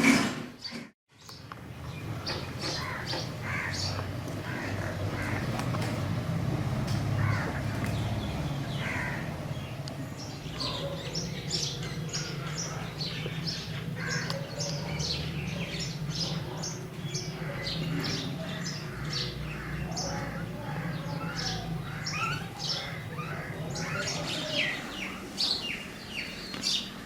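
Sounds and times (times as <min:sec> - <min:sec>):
harsh bird calls: 0:00.0 - 0:06.3, 0:06.9 - 0:27.0.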